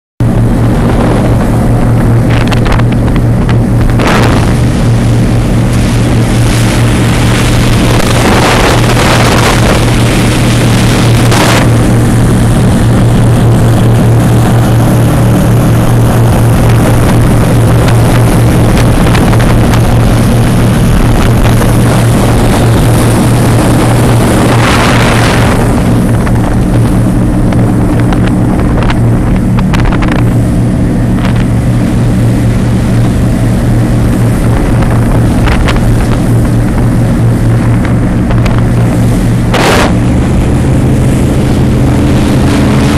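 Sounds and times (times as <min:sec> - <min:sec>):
powerboat engines droning: 0:00.2 - 0:42.9
rush of wind and water: 0:00.2 - 0:42.9.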